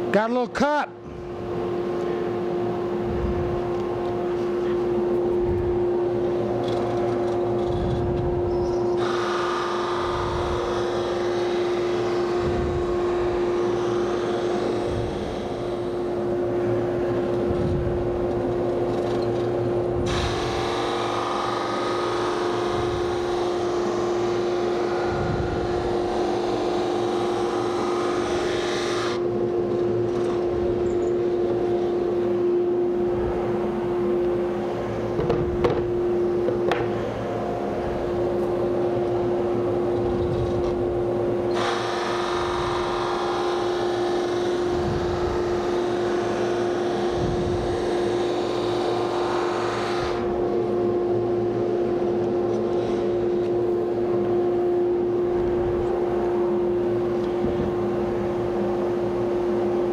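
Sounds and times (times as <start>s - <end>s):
sander motor hum: 1.0s - 59.9s.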